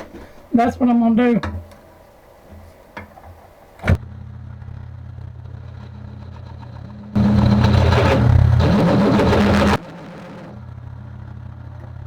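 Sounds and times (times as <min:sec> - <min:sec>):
machine spindle humming: 0:00.0 - 0:12.0.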